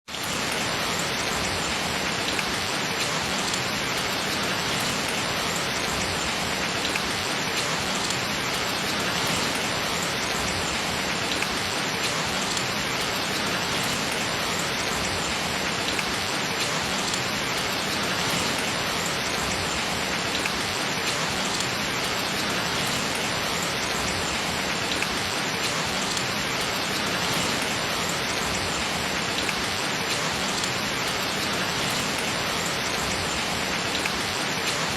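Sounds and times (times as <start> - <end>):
gentle rain falling: 0.1 - 34.9.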